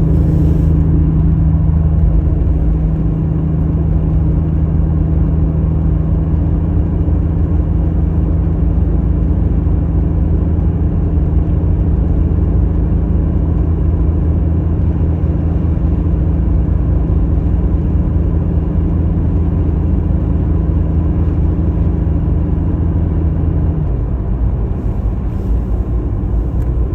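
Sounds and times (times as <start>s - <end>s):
car engine droning: 0.0s - 26.9s.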